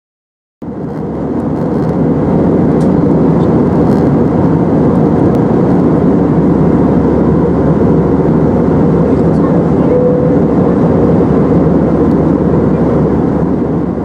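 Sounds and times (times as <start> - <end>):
air conditioning and engines drone: 0.6 - 14.0
airplane cabin rumble: 0.6 - 14.0.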